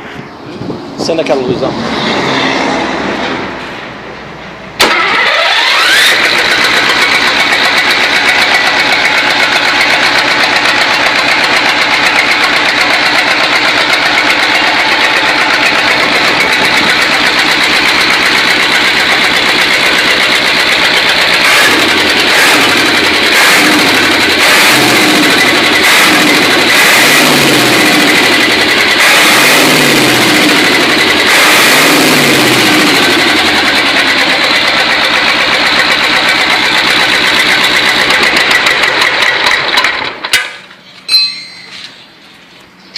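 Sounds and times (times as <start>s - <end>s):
diesel engine starting and running: 0.0s - 42.9s.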